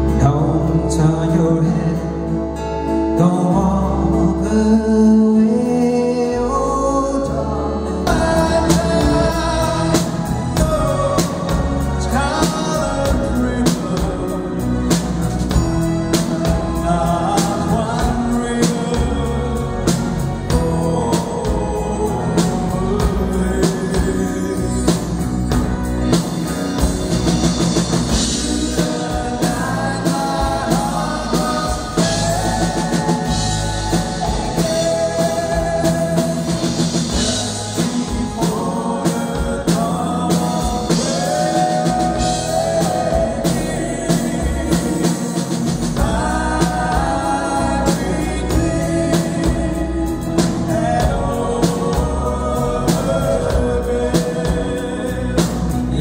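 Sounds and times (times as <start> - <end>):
live band playing: 0.0 - 56.0
man singing lead vocal: 0.0 - 56.0.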